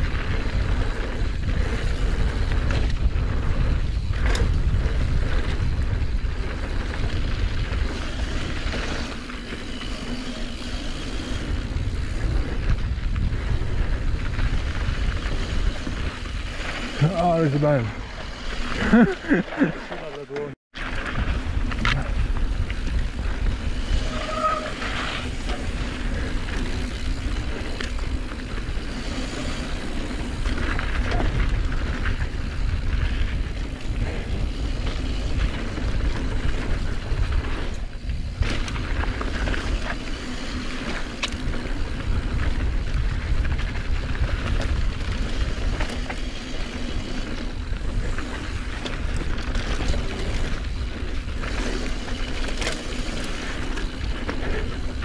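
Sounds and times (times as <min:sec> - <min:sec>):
wind buffeting microphone: 0:00.0 - 0:19.2, 0:21.0 - 0:55.0
bike tyres rolling on dirt: 0:00.0 - 0:55.0.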